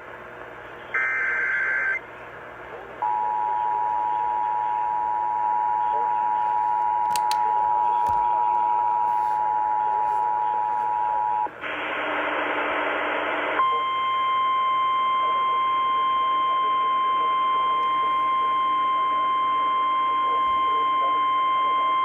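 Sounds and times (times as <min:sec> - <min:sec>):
radio audio: 0:00.5 - 0:22.0.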